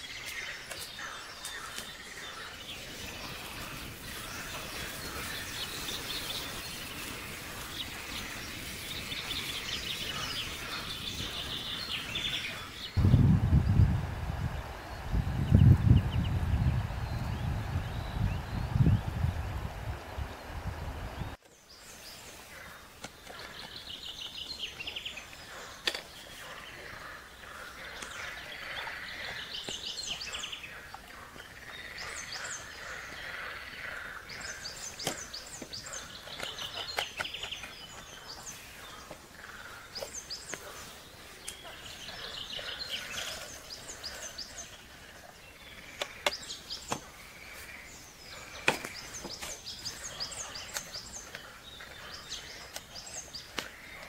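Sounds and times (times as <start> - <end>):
birds singing: 0.0 - 54.0.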